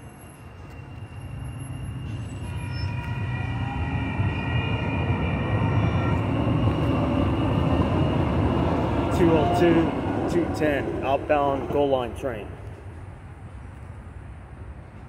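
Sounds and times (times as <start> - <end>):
steady high tones: 0.0 - 12.6
light rail train rumble: 0.0 - 15.0.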